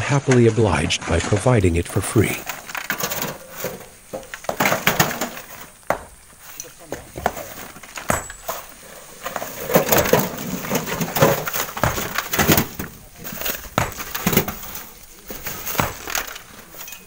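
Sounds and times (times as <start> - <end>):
stones clattering in a wheelbarrow: 0.3 - 17.0.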